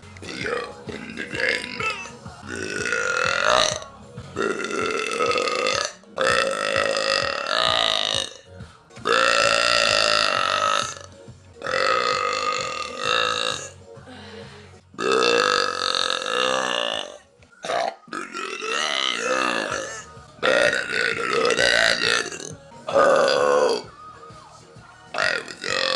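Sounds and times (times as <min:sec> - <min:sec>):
woman belching deeply: 0:00.2 - 0:08.4, 0:09.1 - 0:13.7, 0:15.0 - 0:23.8, 0:25.2 - 0:25.9.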